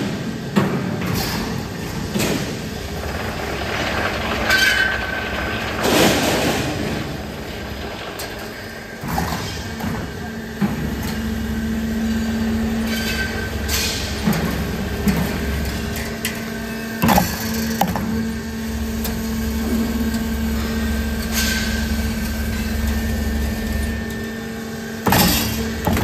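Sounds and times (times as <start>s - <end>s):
machine motor hum with whine: 0.0s - 26.0s.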